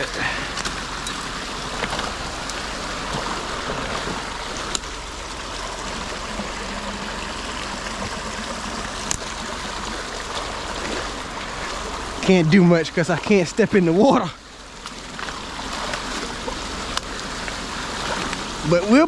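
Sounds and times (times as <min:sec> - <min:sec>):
stream water running: 0:00.0 - 0:19.0.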